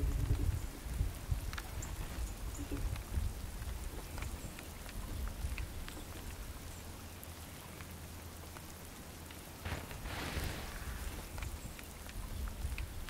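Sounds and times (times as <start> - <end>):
rain patter: 0.0 - 13.0.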